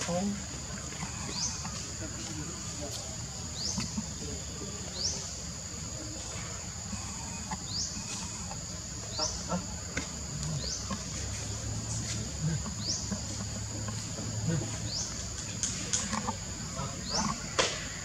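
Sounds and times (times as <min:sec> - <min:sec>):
high-pitched insect drone: 0:00.0 - 0:15.4.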